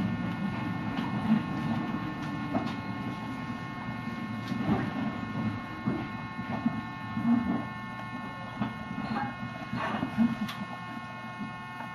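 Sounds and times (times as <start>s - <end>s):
train electrical hum: 0.0s - 11.9s.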